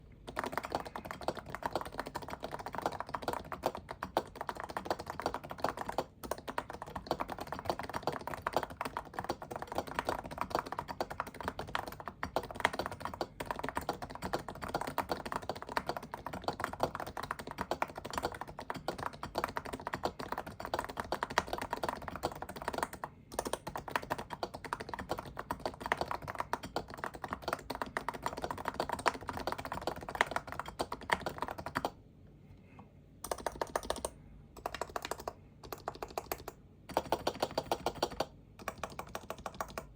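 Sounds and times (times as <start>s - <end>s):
fast keyboard typing: 0.0s - 32.0s, 33.2s - 39.9s.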